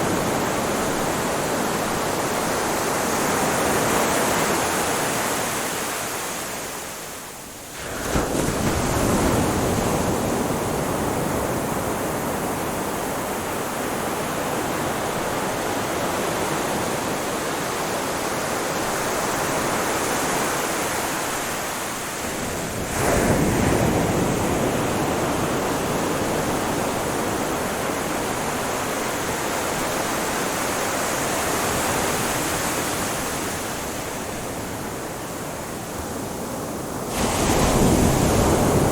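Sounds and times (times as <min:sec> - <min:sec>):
ocean waves washing on shore: 0:00.0 - 0:38.9.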